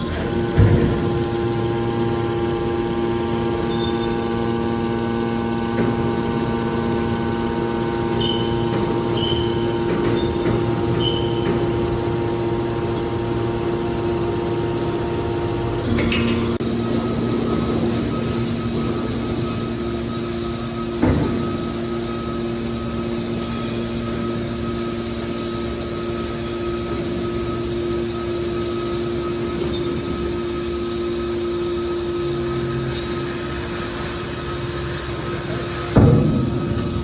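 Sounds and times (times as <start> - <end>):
hydraulic baler humming: 0.0 - 37.0.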